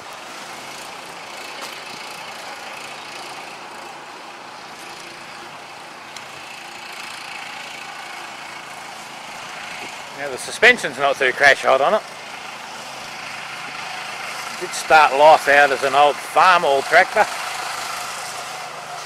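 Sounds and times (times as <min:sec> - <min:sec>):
single-cylinder engine running: 0:00.0 - 0:19.0.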